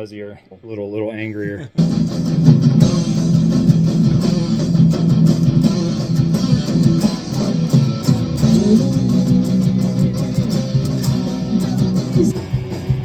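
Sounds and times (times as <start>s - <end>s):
distorted electric guitar: 1.8s - 13.0s.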